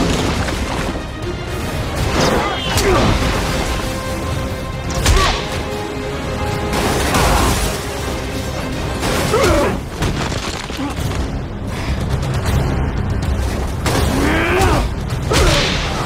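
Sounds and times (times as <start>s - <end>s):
dramatic film score: 0.0s - 16.0s.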